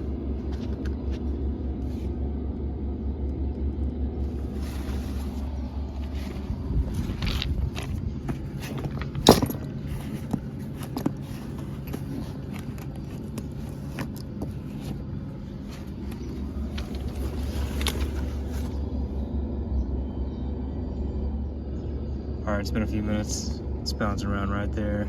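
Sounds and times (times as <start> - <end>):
heat pump humming: 0.0 - 25.0.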